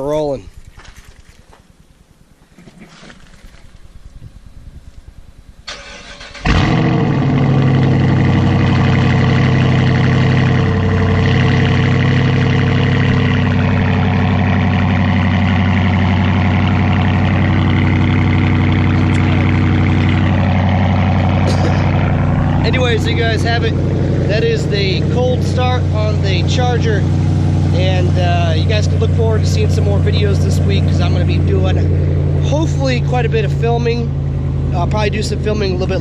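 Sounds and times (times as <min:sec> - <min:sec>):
car engine idling: 0:05.7 - 0:36.0.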